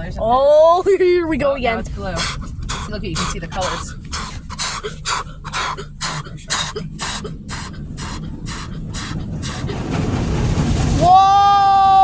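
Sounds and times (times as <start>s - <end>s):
steady low rumble: 0.0s - 12.0s
car wash brushes swishing: 0.6s - 11.2s.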